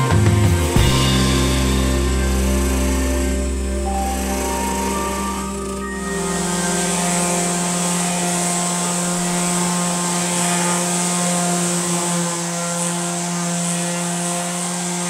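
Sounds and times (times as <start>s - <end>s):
orbit sander running: 0.0s - 15.0s.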